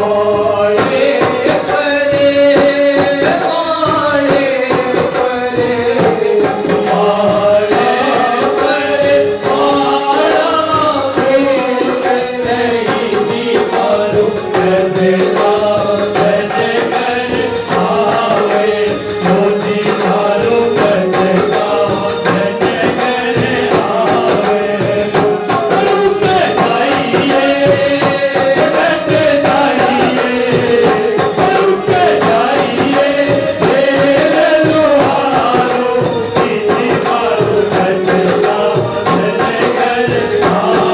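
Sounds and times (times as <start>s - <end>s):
drum beating steadily: 0.0s - 40.9s
group of voices singing in chorus: 0.0s - 40.9s.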